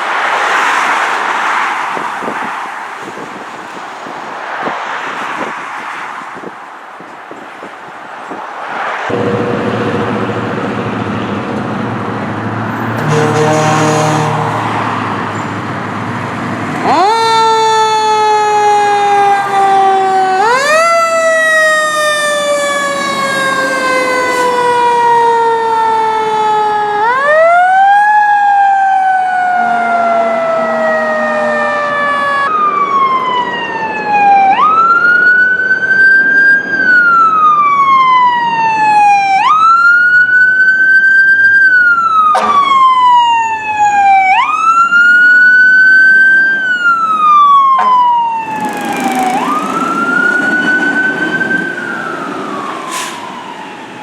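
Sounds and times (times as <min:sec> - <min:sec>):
fire truck siren wailing: 0:09.1 - 0:54.0.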